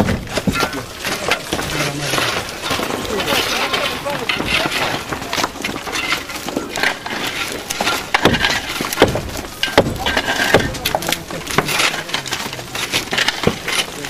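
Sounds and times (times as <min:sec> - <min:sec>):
hand tool striking earth and wood: 0:00.0 - 0:14.0.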